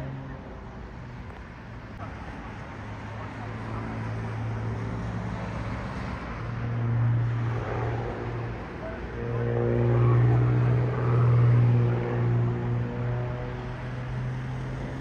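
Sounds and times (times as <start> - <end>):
propeller plane engine droning: 2.2 - 15.0.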